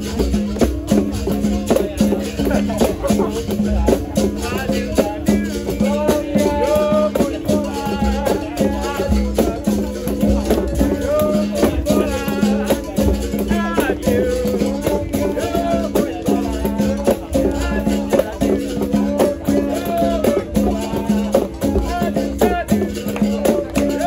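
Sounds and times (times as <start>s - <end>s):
berimbau: 0.0s - 24.0s
hand percussion: 0.0s - 24.0s
shaker rattles: 0.0s - 24.0s
voices singing: 0.0s - 24.0s.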